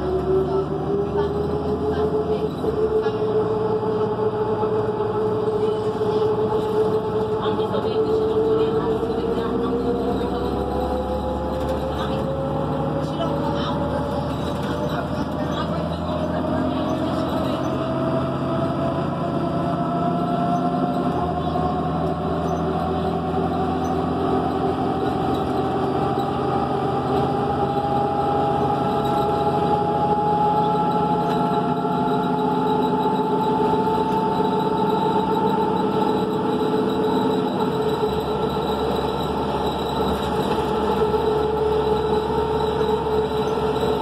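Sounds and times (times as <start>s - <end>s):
bus engine running: 0.0s - 44.0s
drivetrain whine: 0.0s - 44.0s.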